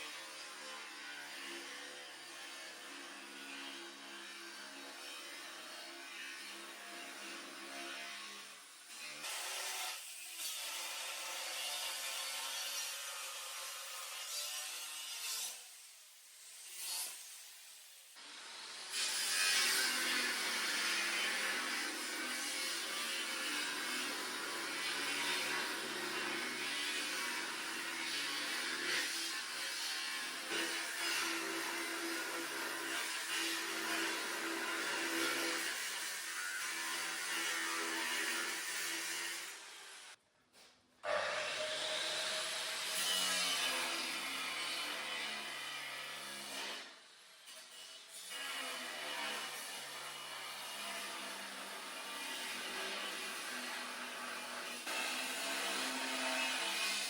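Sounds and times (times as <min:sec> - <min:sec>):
power tool cutting steel sheet: 0:00.0 - 0:40.2, 0:41.0 - 0:57.0.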